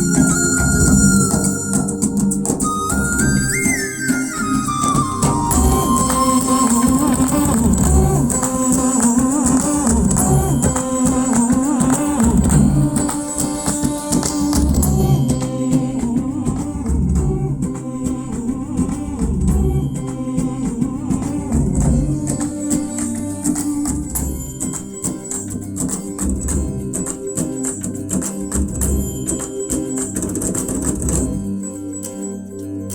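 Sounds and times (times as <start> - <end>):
music with tambourine and bass: 0.0 - 32.4.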